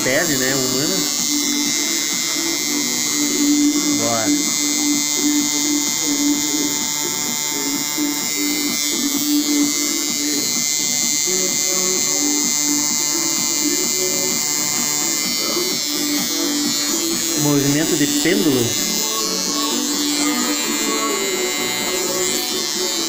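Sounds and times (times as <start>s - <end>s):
background music: 0.0s - 23.0s
tattoo machine buzzing: 0.0s - 23.0s.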